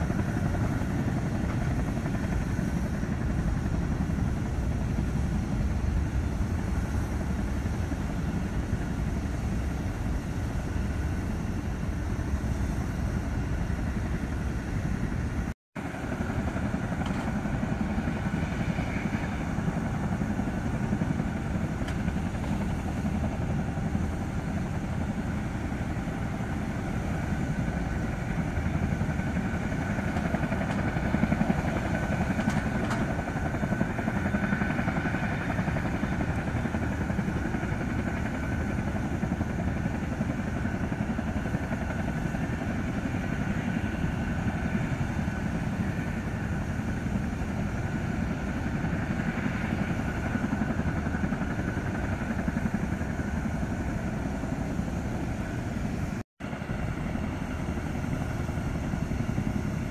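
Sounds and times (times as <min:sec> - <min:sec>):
helicopter turbine engines idling: 0:00.0 - 0:59.9.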